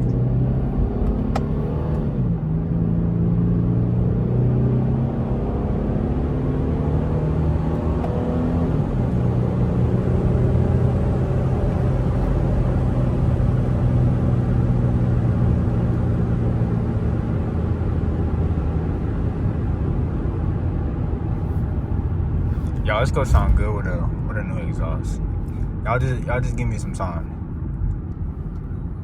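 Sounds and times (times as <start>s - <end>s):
car engine and exhaust droning: 0.0s - 29.0s
road rumble: 0.0s - 29.0s.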